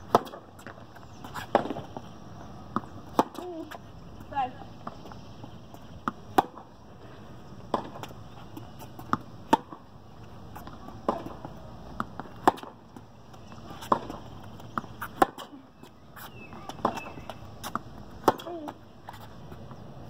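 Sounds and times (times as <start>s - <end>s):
tennis balls bouncing on hard court: 0.0s - 20.0s
tennis balls struck by rackets: 0.0s - 20.0s.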